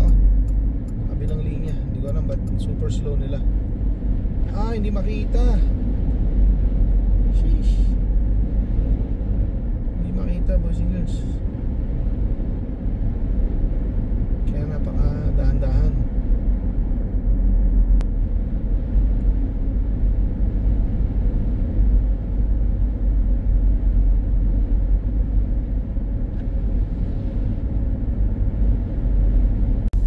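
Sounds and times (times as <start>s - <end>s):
car driving slowly: 0.0s - 30.0s.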